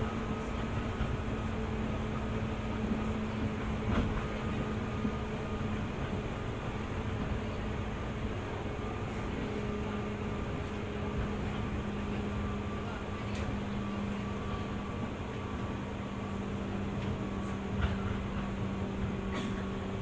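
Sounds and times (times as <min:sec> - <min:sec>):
train cabin hum: 0:00.0 - 0:20.0.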